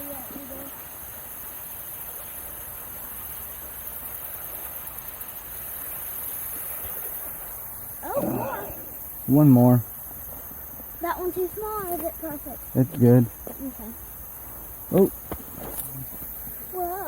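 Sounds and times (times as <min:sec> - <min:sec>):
insect chorus hissing: 0:00.0 - 0:17.0.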